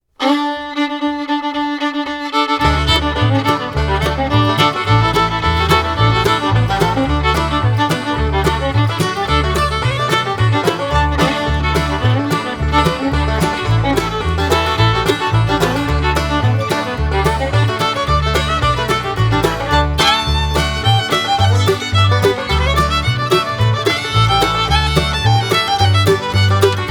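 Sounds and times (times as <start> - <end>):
lively fiddle tune: 0.2 - 26.9
pulsing bass line: 2.6 - 26.9.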